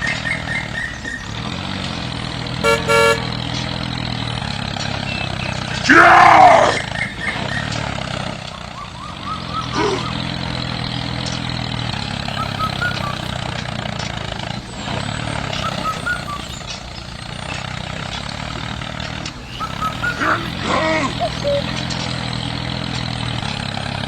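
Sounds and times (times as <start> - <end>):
birds chirping faintly: 0.0 - 24.0
tractor engine running: 0.0 - 24.0.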